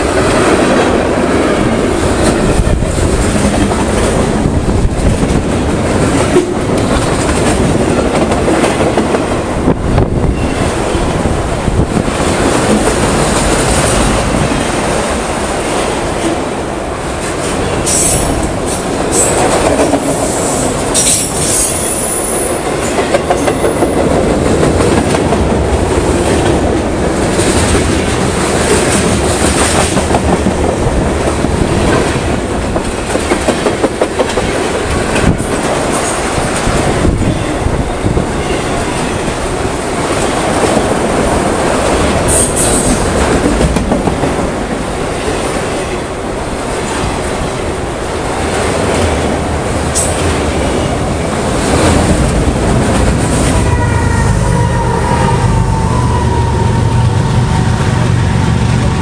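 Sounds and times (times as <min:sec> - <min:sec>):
clickety-clack over rail joints: 0:00.0 - 0:11.0, 0:11.7 - 0:16.5, 0:17.2 - 0:53.8
steel wheels rumbling on rail: 0:00.0 - 0:59.0.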